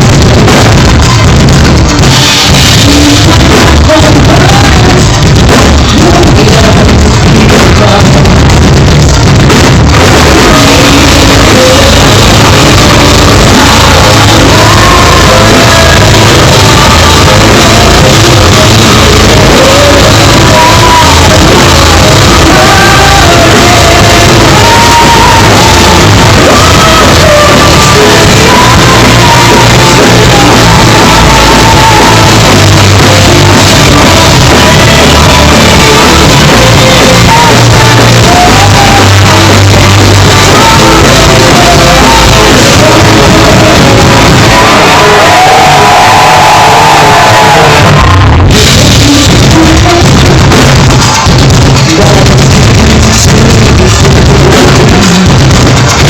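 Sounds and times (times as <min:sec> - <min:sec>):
metal band playing live: 0:00.0 - 0:56.0
person singing lead vocal: 0:00.0 - 0:56.0.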